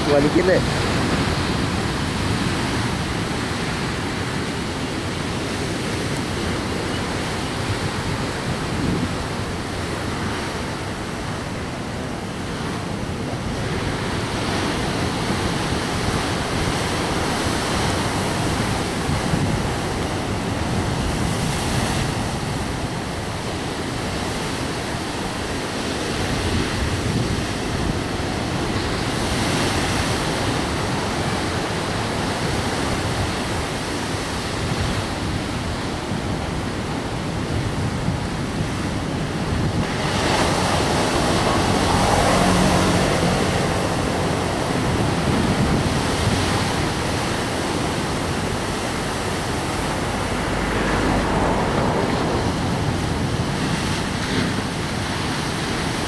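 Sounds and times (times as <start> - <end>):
sea surf breaking: 0.0 - 56.0.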